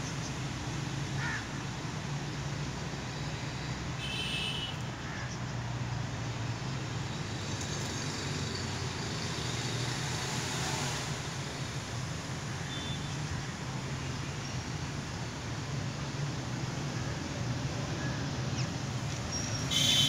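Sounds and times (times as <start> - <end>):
low hum of distant traffic: 0.0 - 20.0.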